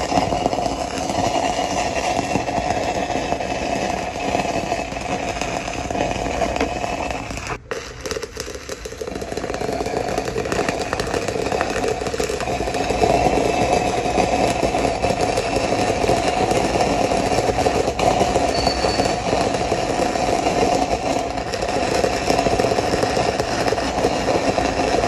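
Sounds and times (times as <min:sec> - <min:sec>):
welding arc crackling: 0:00.0 - 0:25.0.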